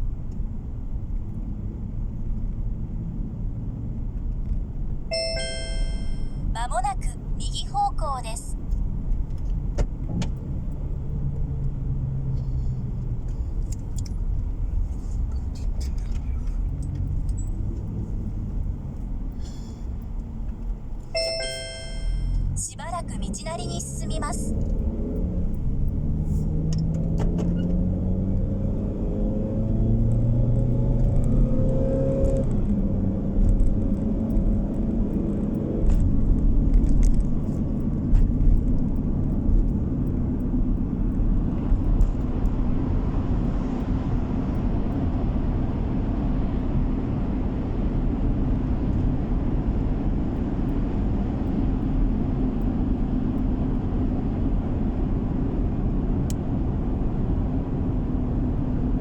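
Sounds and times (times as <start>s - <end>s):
car engine accelerating: 8.6s - 59.0s.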